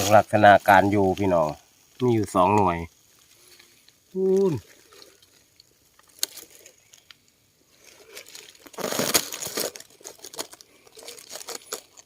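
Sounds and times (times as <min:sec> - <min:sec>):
dry leaves and soil rustling: 0:00.0 - 0:12.0.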